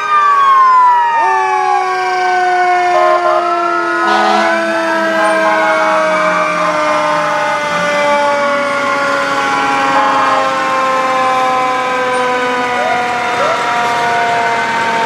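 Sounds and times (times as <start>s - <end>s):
emergency sirens winding down: 0.0s - 15.0s
siren whoops: 0.0s - 15.0s.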